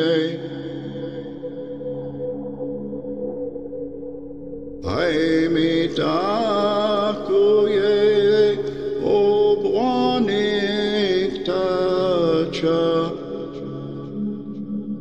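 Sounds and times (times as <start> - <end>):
steady drone: 0.0 - 15.0
voice chanting long notes: 0.0 - 15.0.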